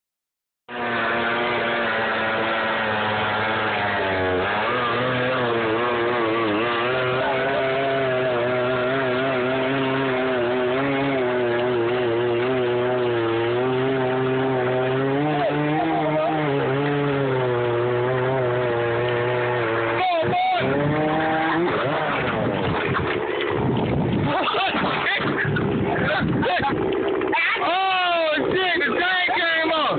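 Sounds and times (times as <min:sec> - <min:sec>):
chainsaw cutting tree trunk: 0:00.7 - 0:29.9.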